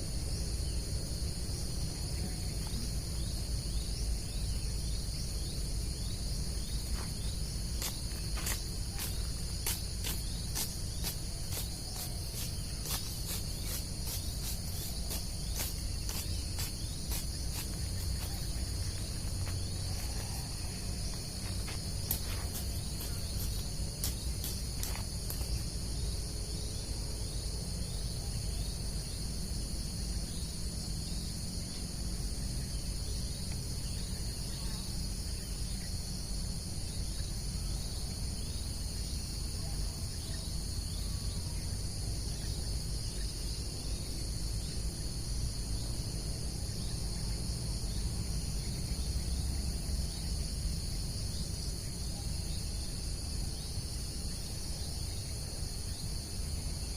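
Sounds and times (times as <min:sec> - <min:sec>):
crickets trilling: 0:00.0 - 0:56.9.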